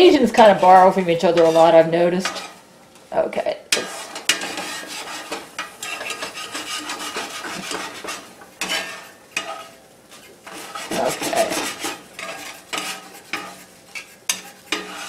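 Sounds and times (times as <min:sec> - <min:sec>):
spatula scraping a skillet: 0:00.0 - 0:02.8, 0:03.7 - 0:15.0
oil sizzling: 0:00.0 - 0:15.0.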